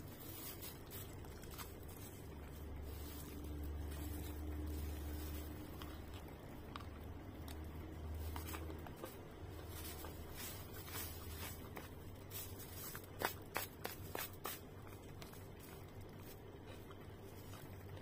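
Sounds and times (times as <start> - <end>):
person chewing: 0.0 - 18.0.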